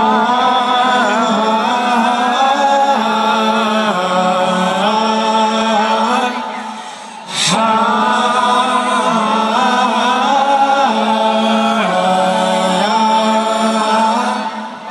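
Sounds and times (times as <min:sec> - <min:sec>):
voices singing in harmony: 0:00.0 - 0:14.9.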